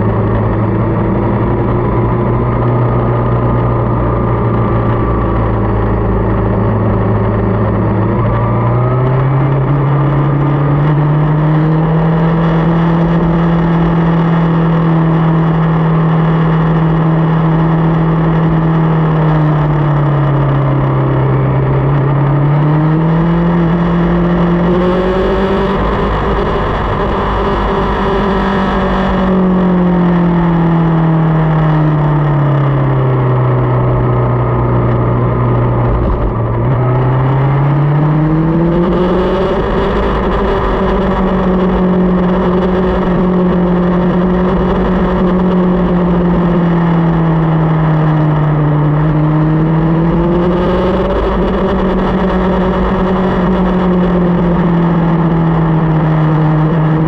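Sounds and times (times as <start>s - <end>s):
motorcycle engine running: 0.0s - 57.0s
road noise: 0.0s - 57.0s
wind noise: 0.0s - 57.0s.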